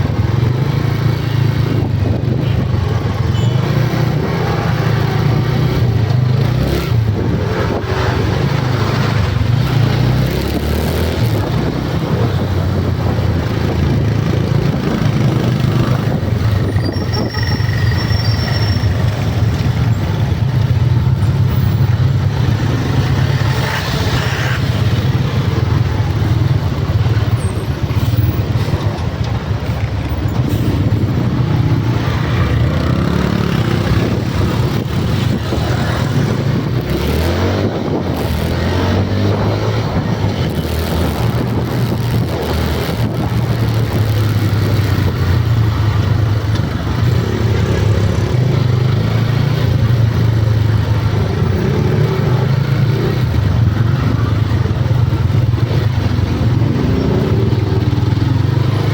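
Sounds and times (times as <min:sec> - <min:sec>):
motor vehicle engines rumbling: 0:00.0 - 0:58.9
road noise: 0:00.0 - 0:58.9.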